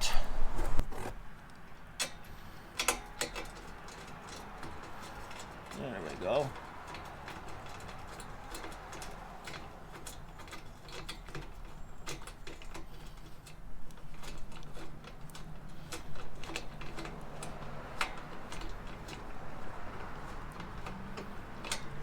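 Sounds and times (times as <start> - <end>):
metallic clicks and taps: 1.4 - 5.8, 6.5 - 22.0.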